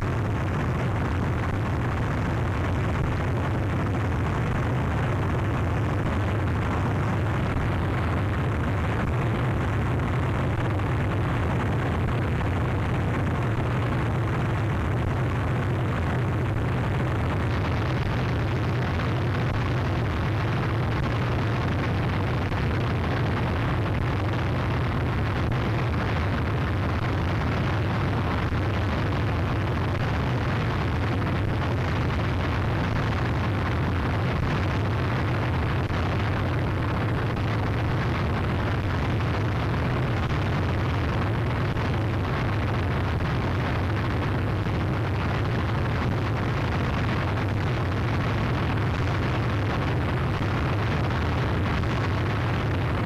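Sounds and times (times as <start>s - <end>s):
distorted noise wall: 0.0s - 53.0s
heavy low rumble: 0.0s - 53.0s.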